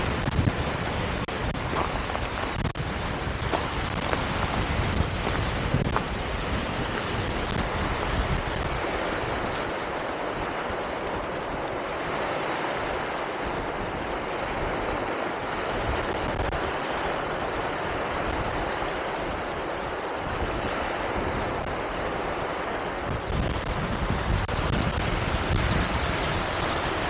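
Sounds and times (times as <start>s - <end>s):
sea surf: 0.0s - 27.0s
wind: 0.0s - 27.0s
wind buffeting microphone: 0.0s - 27.0s.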